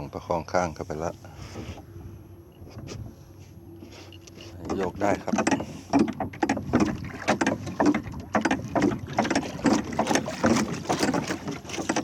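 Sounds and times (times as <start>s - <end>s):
water slapping a boat: 0.0s - 12.0s.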